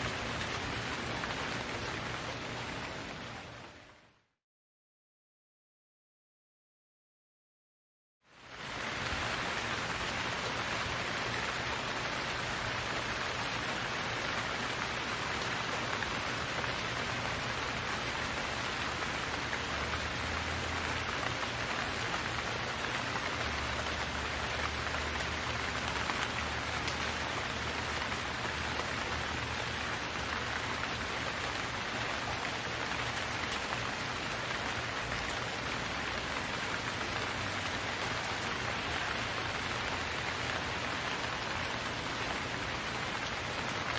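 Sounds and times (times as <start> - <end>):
rain on hard surfaces: 0.0 - 4.2, 8.3 - 43.9.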